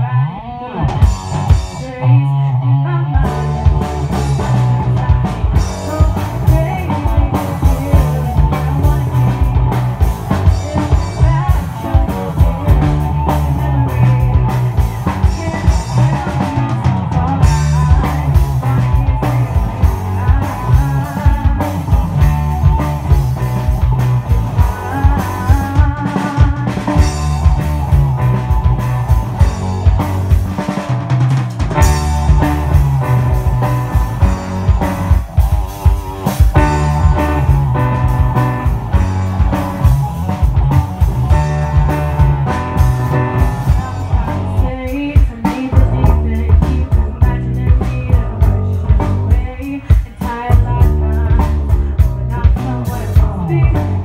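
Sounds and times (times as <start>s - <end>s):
bass guitar: 0.0s - 54.0s
electric guitar riff: 0.0s - 54.0s
drum kit beat: 0.9s - 2.0s, 3.2s - 54.0s.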